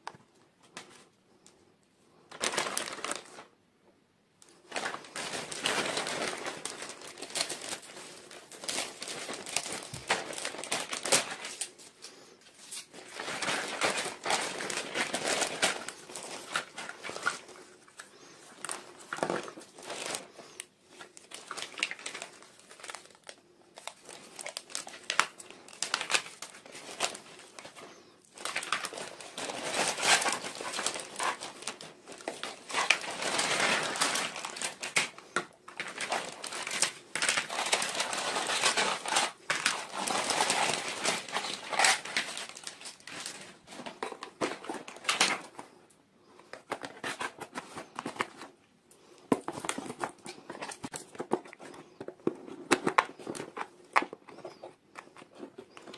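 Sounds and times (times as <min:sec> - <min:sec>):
packaging wrapper crinkling: 0:02.3 - 0:03.5, 0:04.4 - 0:55.9.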